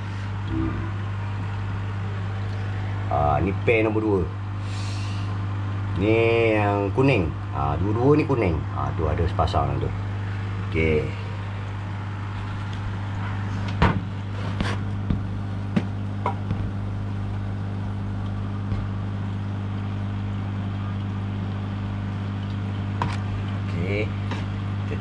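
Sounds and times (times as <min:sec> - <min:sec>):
aquarium filter pump hum: 0:00.0 - 0:25.0.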